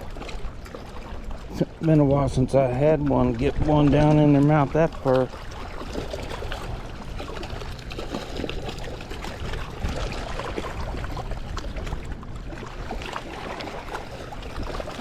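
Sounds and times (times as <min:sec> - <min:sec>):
water lapping and splashing: 0:00.0 - 0:15.0
wind buffeting microphone: 0:00.0 - 0:15.0.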